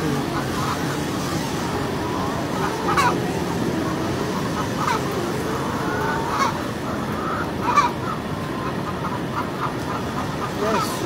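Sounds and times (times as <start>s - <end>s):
hens calling: 0.0s - 11.0s.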